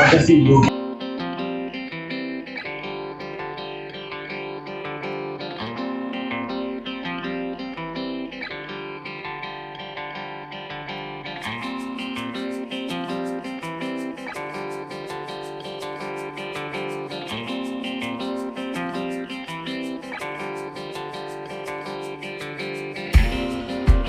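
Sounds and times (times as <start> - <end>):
plucked guitar notes: 0.0 - 24.0.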